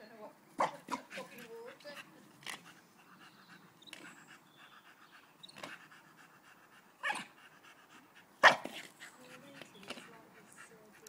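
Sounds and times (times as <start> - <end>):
dog panting faintly: 0.6 - 11.0.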